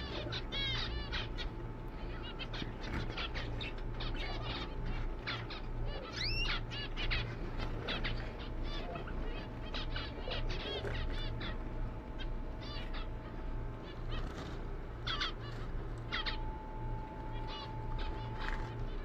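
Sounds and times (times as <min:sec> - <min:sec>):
finches chirping: 0:00.0 - 0:19.0
low steady hum: 0:00.0 - 0:19.0.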